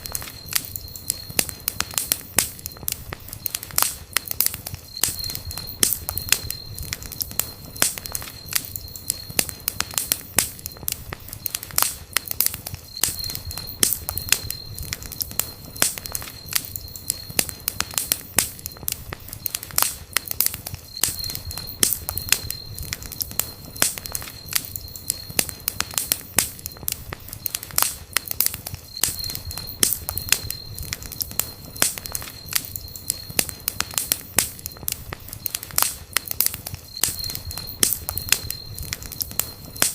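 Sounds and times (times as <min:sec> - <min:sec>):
high whistle: 0:00.0 - 0:19.7, 0:20.8 - 0:39.9
campfire crackling and popping: 0:00.0 - 0:39.9.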